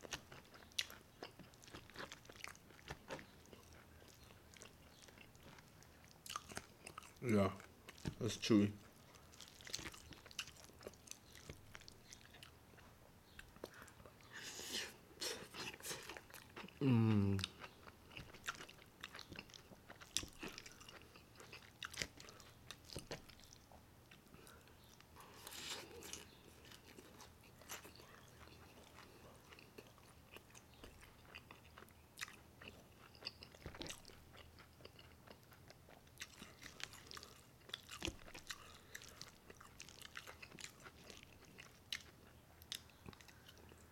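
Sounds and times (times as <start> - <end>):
close-up chewing: 0.0 - 43.9.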